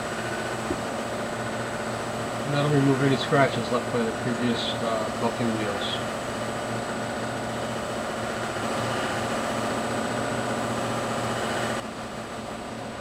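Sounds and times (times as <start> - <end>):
buffing machine hum: 0.0 - 12.4.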